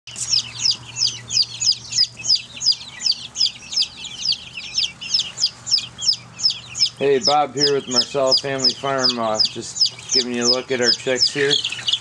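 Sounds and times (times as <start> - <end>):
chicks peeping: 0.1 - 12.0.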